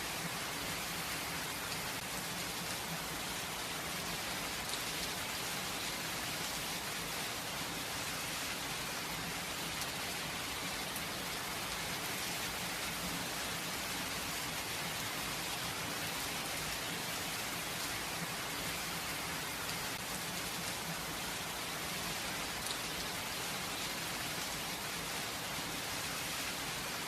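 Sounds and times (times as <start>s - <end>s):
rain pattering: 0.2s - 6.8s, 8.4s - 13.8s, 16.5s - 27.0s.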